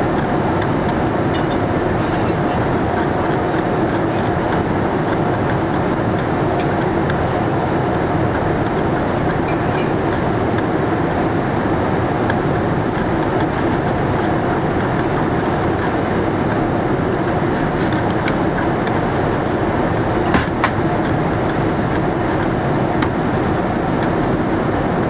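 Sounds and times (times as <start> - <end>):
airflow rushing in cabin: 0.0 - 25.0
faint engine hum: 0.0 - 25.0.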